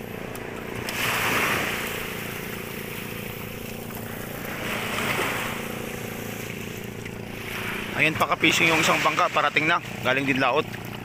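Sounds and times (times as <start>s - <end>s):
sea waves washing in: 0.0s - 11.0s
steady low hum: 0.0s - 11.0s.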